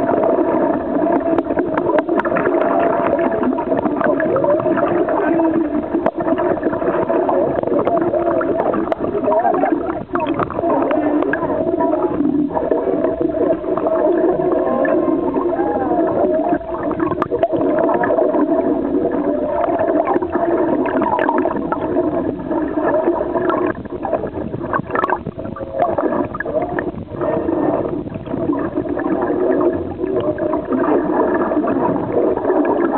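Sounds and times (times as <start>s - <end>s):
whale song underwater: 0.0s - 32.9s.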